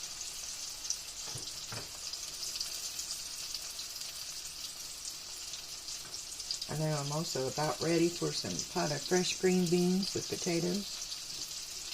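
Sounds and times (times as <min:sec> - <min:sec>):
tomato slices sizzling in oil: 0:00.0 - 0:11.9.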